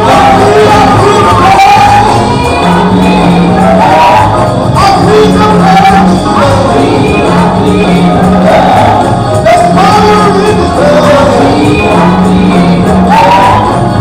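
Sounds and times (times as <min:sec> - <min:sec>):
gospel music with singing: 0:00.0 - 0:14.0.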